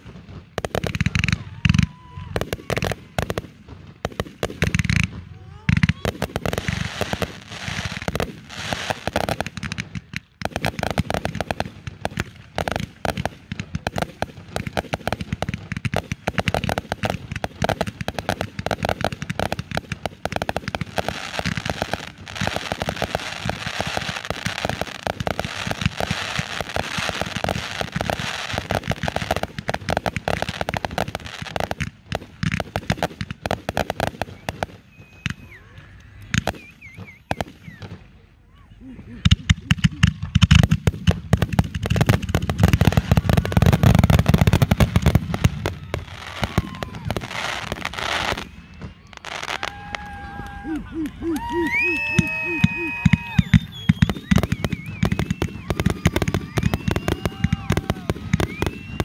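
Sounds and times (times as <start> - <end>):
fireworks crackle: 0.0 - 38.2, 39.2 - 59.0
fireworks launching and bursting: 0.0 - 38.3, 39.2 - 59.0.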